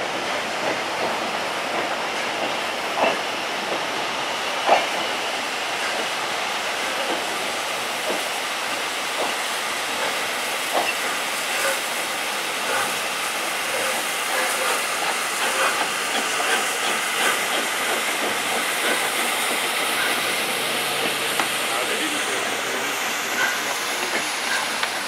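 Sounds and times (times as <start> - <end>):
steam locomotive hissing: 0.0 - 25.0.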